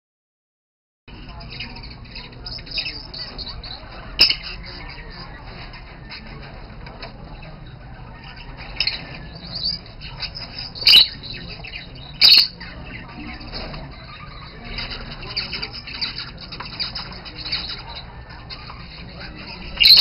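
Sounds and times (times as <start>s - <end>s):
budgerigars chattering and warbling: 1.1s - 20.0s.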